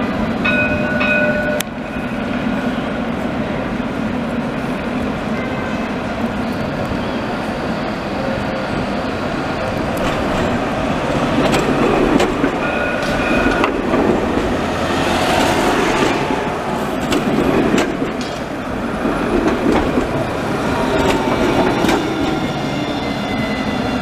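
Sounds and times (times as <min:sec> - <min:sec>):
tram running on rails: 0:00.0 - 0:24.0.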